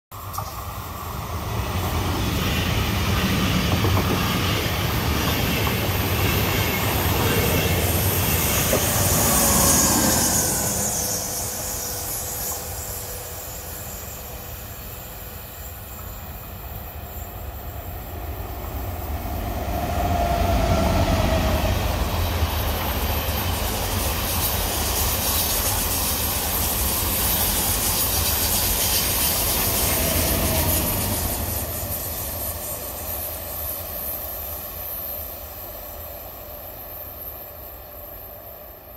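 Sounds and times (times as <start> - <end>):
electric trains passing at speed: 0.1 - 38.9.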